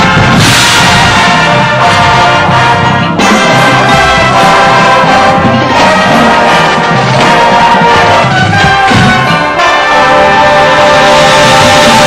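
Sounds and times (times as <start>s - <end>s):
brass horns playing chords: 0.0s - 12.0s.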